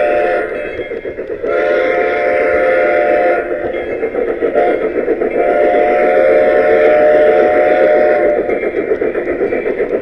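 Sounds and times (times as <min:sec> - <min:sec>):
model steam train whistle: 0:00.0 - 0:00.8, 0:01.4 - 0:08.6
train running on track: 0:00.0 - 0:10.0.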